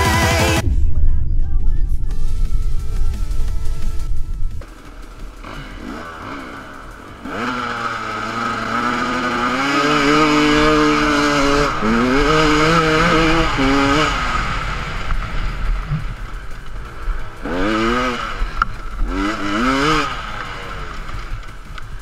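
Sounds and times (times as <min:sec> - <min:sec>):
motorcycle engine revving: 0:02.7 - 0:22.0.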